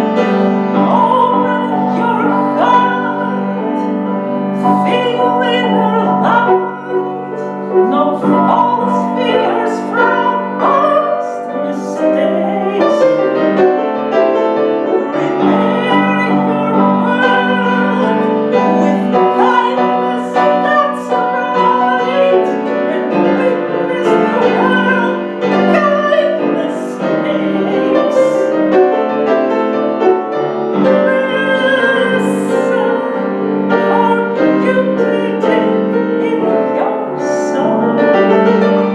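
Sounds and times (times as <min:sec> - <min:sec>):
piano playing: 0:00.0 - 0:38.9
woman singing operatically: 0:00.7 - 0:28.7, 0:30.8 - 0:38.9.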